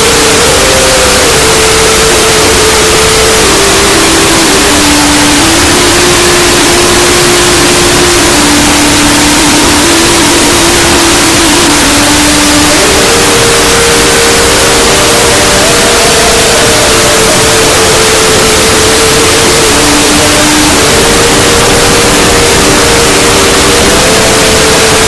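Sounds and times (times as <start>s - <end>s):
distorted held tones: 0.0s - 25.0s
harsh distorted hiss: 0.0s - 25.0s.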